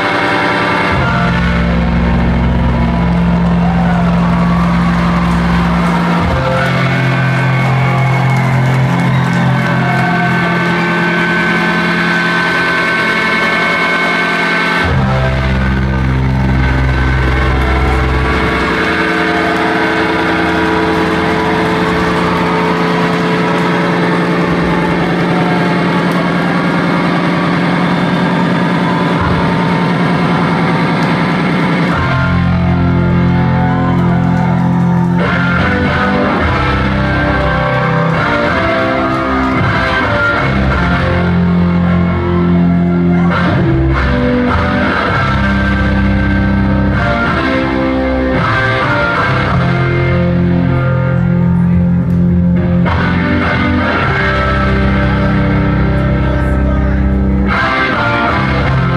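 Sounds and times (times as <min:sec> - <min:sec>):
electric guitar: 0:00.0 - 0:58.9
live rock band playing: 0:00.0 - 0:58.9.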